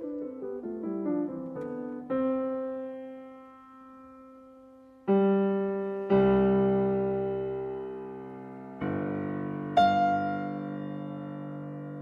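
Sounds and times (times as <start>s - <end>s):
slow solo piano: 0.0s - 12.0s.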